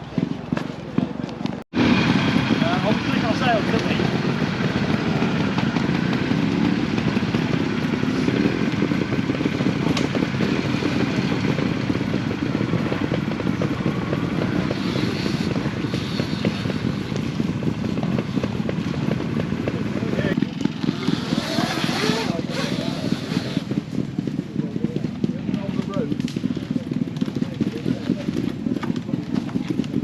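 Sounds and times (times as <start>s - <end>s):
rushing rumble: 0.0s - 30.0s
crackle and clatter: 0.2s - 30.0s.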